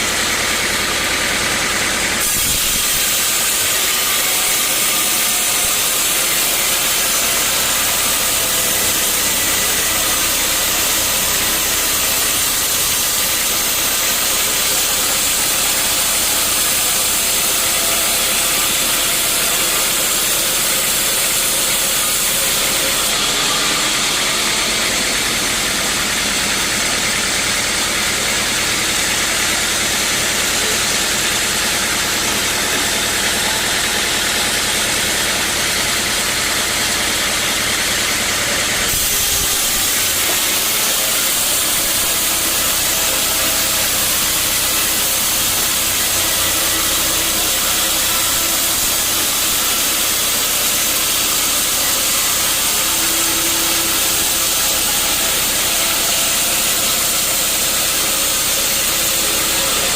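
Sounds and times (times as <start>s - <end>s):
saw hissing: 0.0s - 59.9s
sawmill machinery droning: 0.0s - 59.9s.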